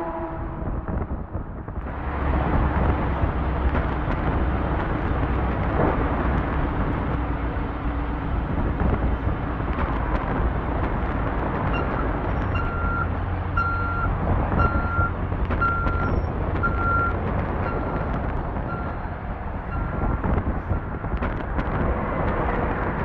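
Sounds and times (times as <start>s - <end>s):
low engine rumble: 0.0s - 23.0s
traffic and road noise: 0.0s - 23.0s.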